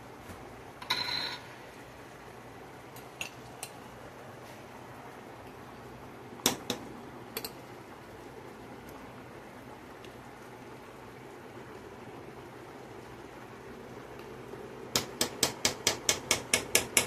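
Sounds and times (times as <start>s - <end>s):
boiling pot hiss: 0.0s - 17.0s.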